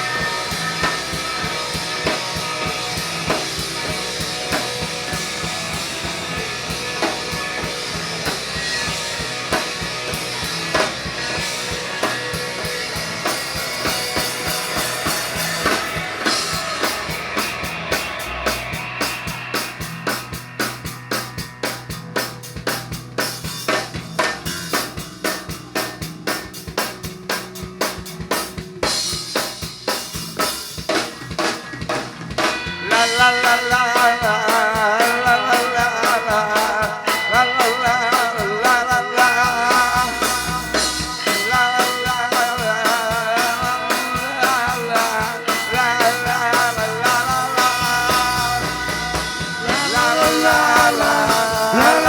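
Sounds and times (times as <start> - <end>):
fast drumbeat: 0.0 - 52.0
psychedelic rock music: 0.0 - 52.0
wavering instrumental lines: 0.0 - 52.0.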